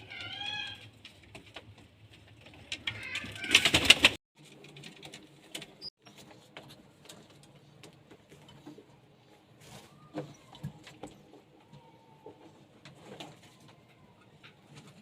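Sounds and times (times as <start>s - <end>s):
pigeons scuffling: 0.1s - 15.0s.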